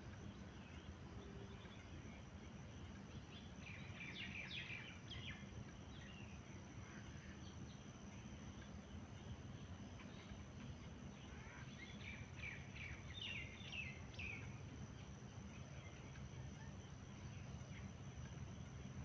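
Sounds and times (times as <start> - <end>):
low outdoor rumble: 0.0 - 19.0
birds chirping: 0.1 - 19.0.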